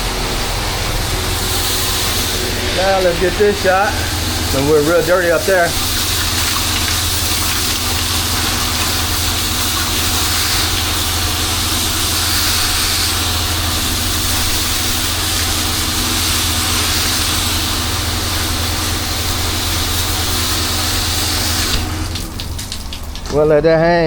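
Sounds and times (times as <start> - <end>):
water spraying hiss: 0.0 - 23.2
pressure washer engine hum: 0.0 - 24.0.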